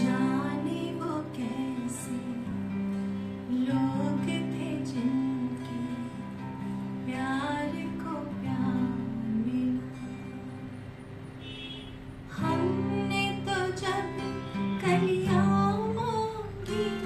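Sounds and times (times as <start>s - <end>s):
woman singing: 0.0s - 10.9s, 12.3s - 17.0s
acoustic guitar strumming: 0.0s - 17.0s.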